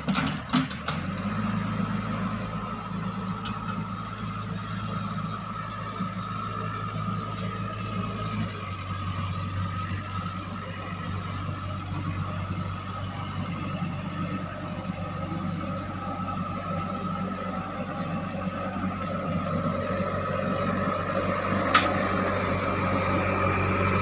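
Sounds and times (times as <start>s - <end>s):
diesel engine running: 0.0s - 24.0s
steady whine: 3.2s - 24.0s.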